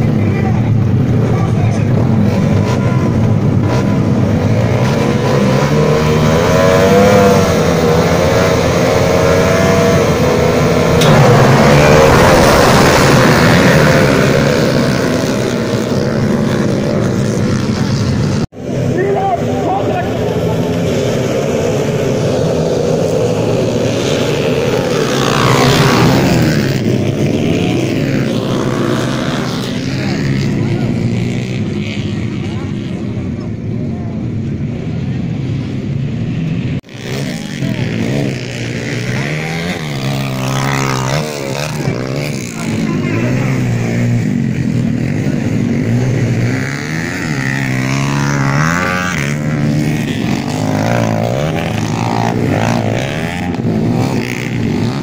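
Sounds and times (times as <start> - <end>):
dirt bike engines revving: 0.0 - 55.0
motorcycle passing close: 0.0 - 55.0
race motorcycles running hard: 0.0 - 55.0.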